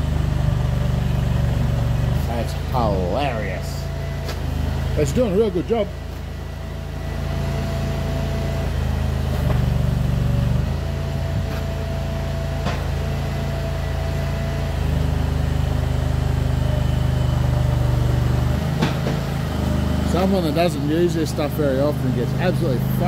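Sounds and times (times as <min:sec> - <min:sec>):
loader engine running: 0:00.0 - 0:23.0.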